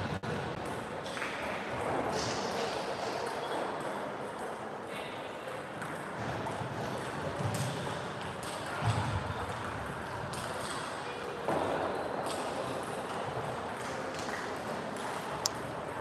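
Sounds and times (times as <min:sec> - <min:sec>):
sports hall background noise: 0:00.0 - 0:16.0.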